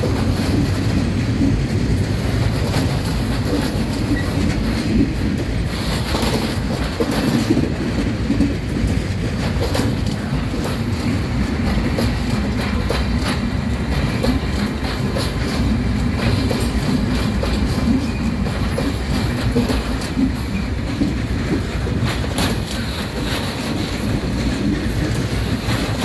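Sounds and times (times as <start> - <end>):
train wheels rumbling on rails: 0.0 - 26.0
wheels clacking over rail joints: 0.0 - 26.0.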